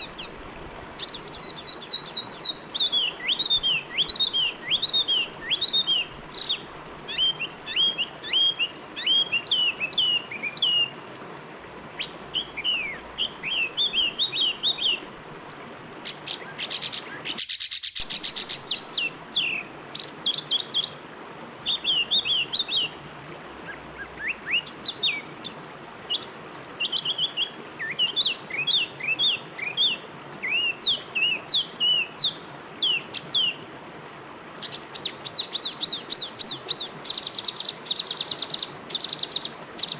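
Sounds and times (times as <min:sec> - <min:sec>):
songbirds chirping: 0:00.0 - 0:15.2, 0:15.9 - 0:33.7, 0:34.5 - 0:39.9
flowing river water: 0:00.0 - 0:39.9.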